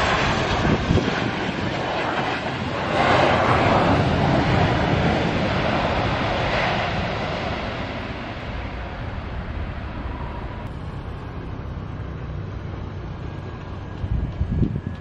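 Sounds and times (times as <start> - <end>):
faint jet airliner whine: 0.0 - 15.0
jet engines roaring: 0.0 - 15.0.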